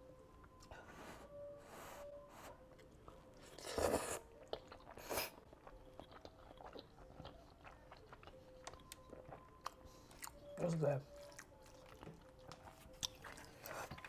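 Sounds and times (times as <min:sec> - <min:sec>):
wet chewing and mouth clicks: 0:02.7 - 0:14.0.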